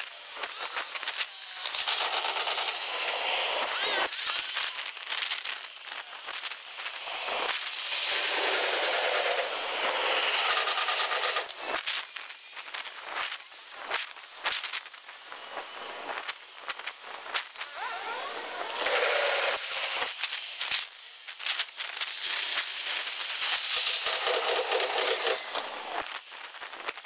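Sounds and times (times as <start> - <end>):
high hissing rush: 0.0 - 26.8
fast crackling clicks: 0.0 - 27.0.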